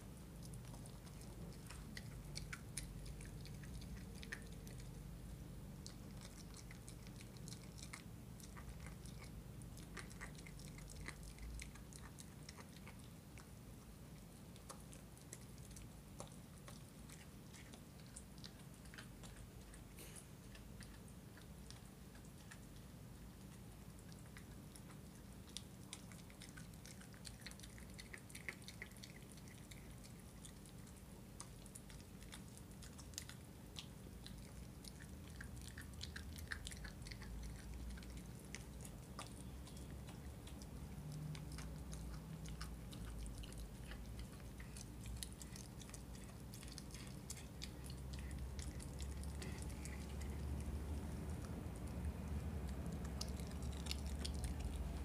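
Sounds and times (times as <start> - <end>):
puppy chewing on bone: 0.0 - 55.0.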